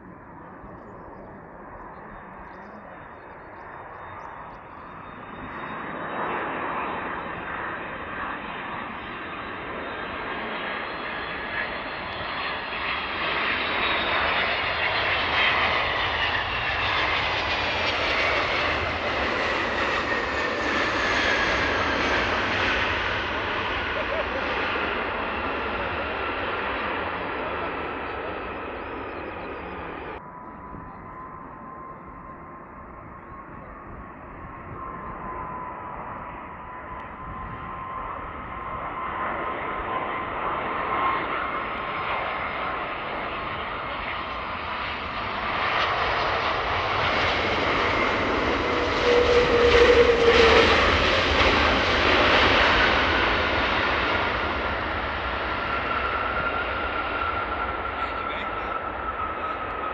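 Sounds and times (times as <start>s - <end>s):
jet airliner engine rumble and whine: 0.0s - 59.9s.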